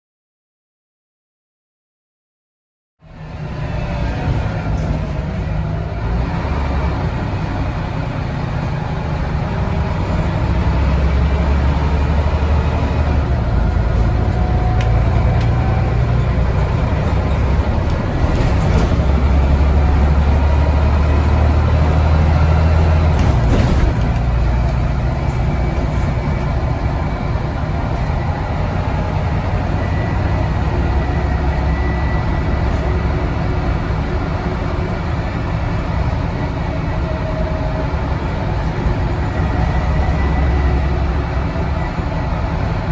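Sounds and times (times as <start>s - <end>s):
bus engine under load: 3.0s - 42.9s.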